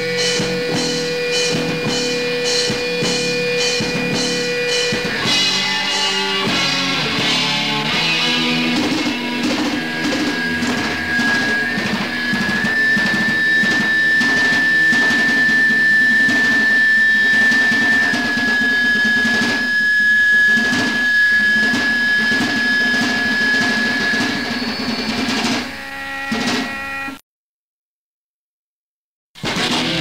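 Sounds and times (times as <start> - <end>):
metal band playing: 0.0 - 27.2, 29.4 - 30.0
steady high whine: 0.0 - 27.2.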